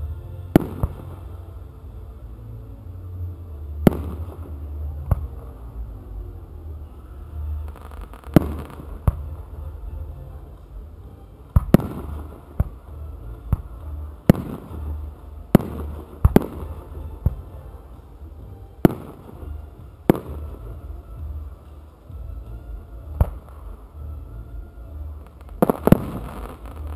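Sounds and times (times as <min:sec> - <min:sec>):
low rumble: 0:00.0 - 0:26.9.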